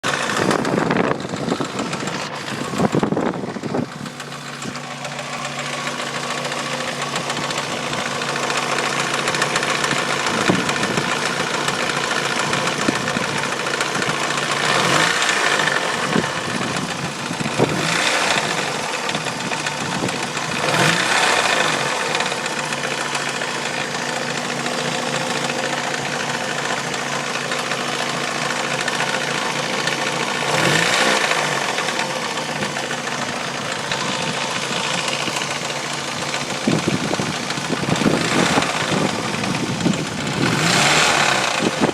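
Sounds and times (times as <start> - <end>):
car engine idling with rattle: 0.0 - 41.9.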